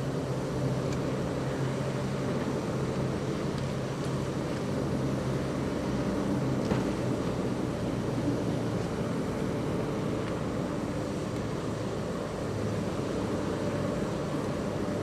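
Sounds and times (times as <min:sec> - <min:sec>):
locomotive diesel engine droning: 0:00.0 - 0:15.0.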